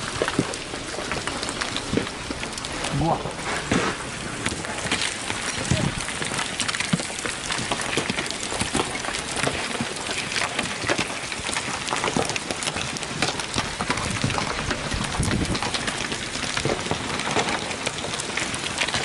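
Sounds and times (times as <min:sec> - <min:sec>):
heavy rain on a hard surface: 0:00.0 - 0:19.0.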